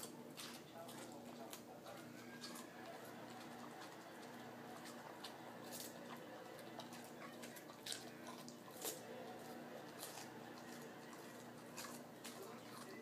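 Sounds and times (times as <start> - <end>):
dog crunching celery: 0.0 - 13.0.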